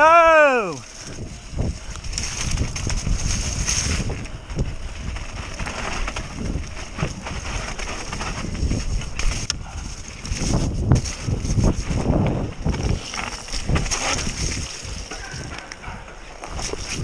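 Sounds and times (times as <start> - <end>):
bike knocking and rattling: 0.0 - 17.0
tyres rolling over rough ground: 0.0 - 17.0
wind buffeting microphone: 0.0 - 17.0.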